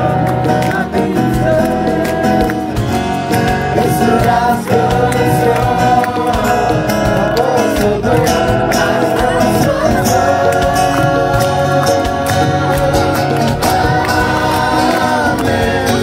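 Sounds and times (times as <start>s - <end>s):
group of voices singing: 0.0s - 16.0s
strummed acoustic guitar: 0.0s - 16.0s.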